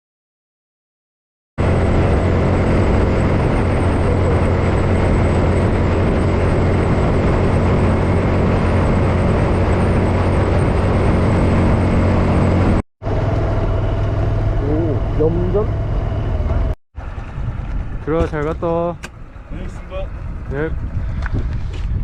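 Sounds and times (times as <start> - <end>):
motorcycle engine drone: 1.6 - 22.0
wind and road noise: 1.6 - 22.0.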